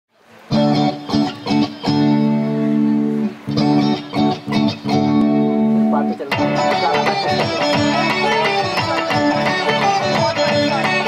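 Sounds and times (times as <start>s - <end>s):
electric guitar chords: 0.5s - 11.0s.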